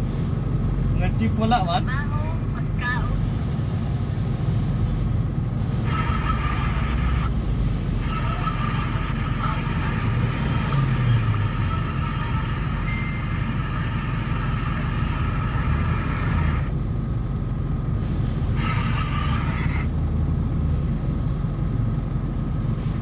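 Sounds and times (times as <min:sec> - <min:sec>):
jeep engine rumbling: 0:00.0 - 0:23.0.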